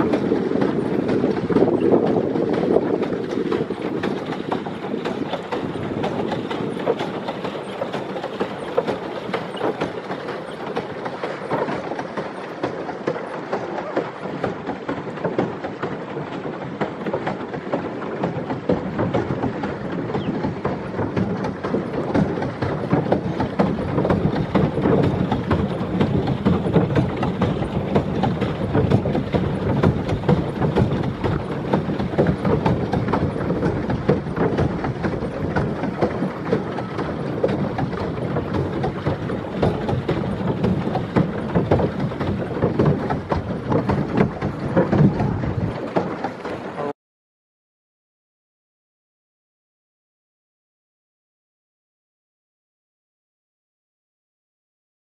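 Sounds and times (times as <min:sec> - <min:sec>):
paddle wheels churning water: 0:00.0 - 0:47.0.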